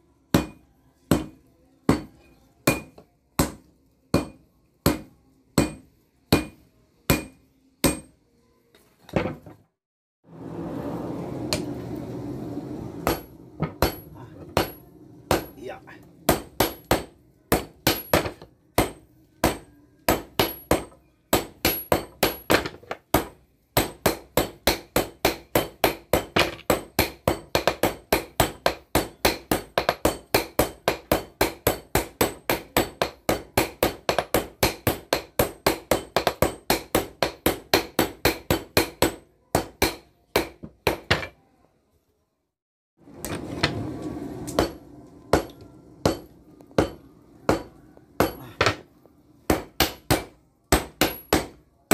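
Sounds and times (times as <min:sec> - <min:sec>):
hammer striking steel on anvil: 0:00.3 - 0:08.2, 0:13.0 - 0:41.4, 0:44.4 - 0:48.9, 0:49.5 - 0:51.9.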